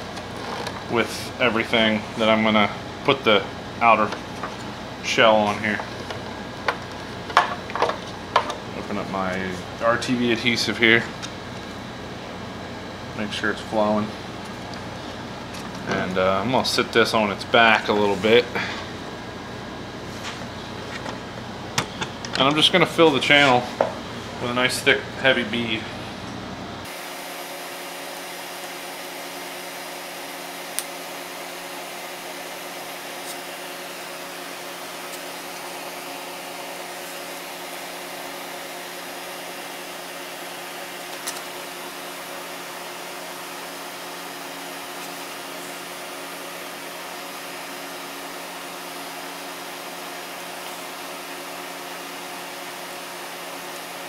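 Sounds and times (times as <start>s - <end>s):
whirring machine hum: 0.0s - 54.0s.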